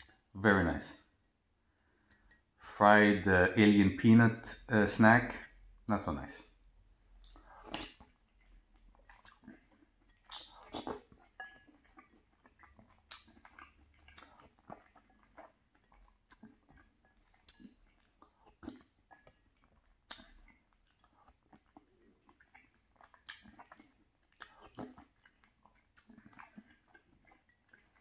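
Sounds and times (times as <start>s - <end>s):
faint chewing: 1.0s - 2.7s, 6.4s - 28.0s.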